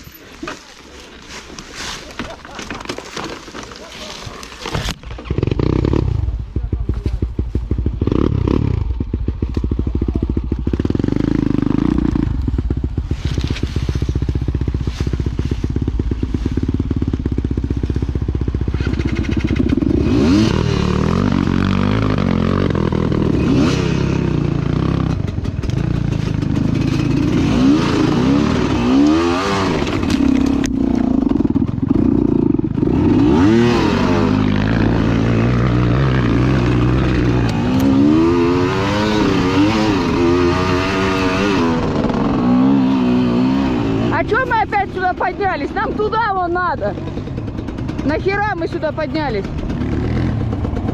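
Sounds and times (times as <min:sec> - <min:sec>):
motorcycle engine revving: 0:04.6 - 0:50.9.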